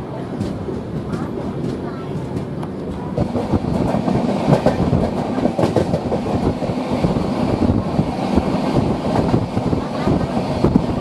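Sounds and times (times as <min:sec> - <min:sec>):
steady train rumble: 0:00.0 - 0:11.0
train wheels clattering over rails: 0:00.0 - 0:11.0.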